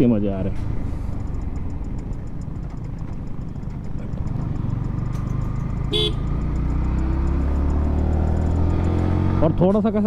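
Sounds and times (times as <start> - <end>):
faint ticking: 0.0 - 9.1
motorcycle engine at low revs: 0.0 - 10.0
road rumble: 0.0 - 10.0
wind: 0.0 - 10.0.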